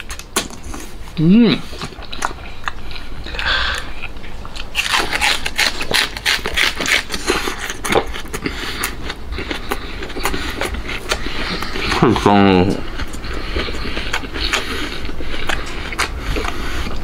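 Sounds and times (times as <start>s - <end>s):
person chewing wetly: 1.6s - 17.0s.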